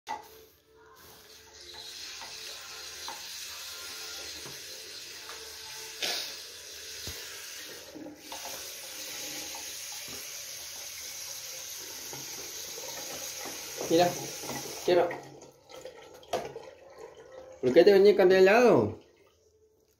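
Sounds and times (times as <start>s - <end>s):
water running into ceramic bowl: 1.2s - 19.7s.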